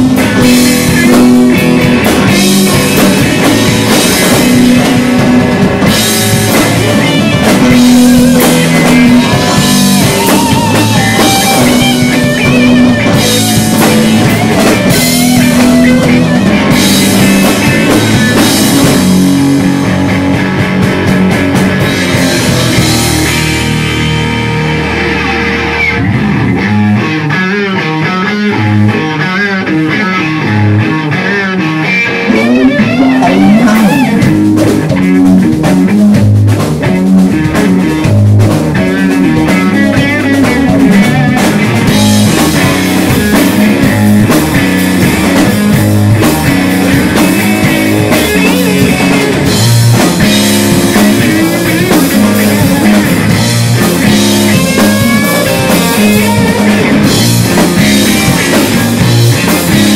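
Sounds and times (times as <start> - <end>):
electric guitar lead: 0.0 - 59.9
rock band playing: 0.0 - 59.9.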